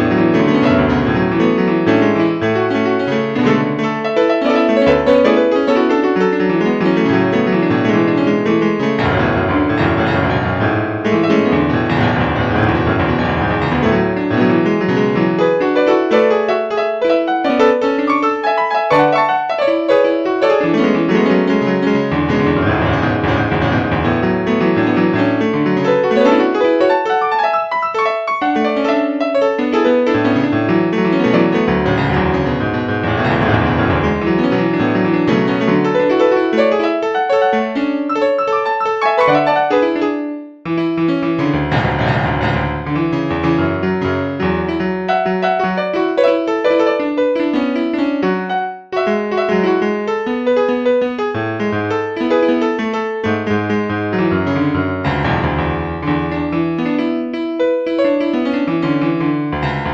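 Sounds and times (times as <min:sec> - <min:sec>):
piano background music: 0:00.0 - 0:59.9.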